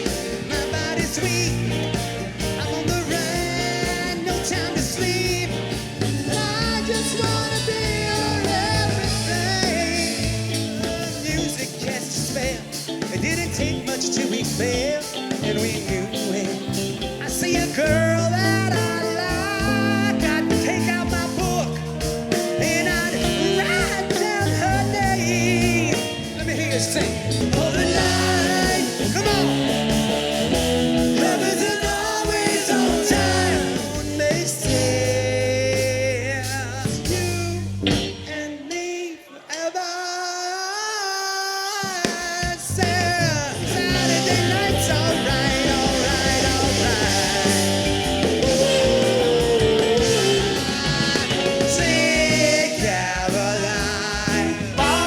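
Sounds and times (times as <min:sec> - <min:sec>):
soft rock band playing: 0:00.0 - 0:39.7, 0:41.3 - 0:55.0
lead singer singing: 0:00.0 - 0:55.0.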